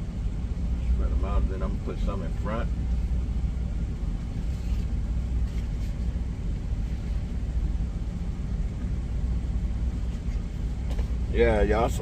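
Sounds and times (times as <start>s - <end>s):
truck engines idling: 0.0s - 12.0s.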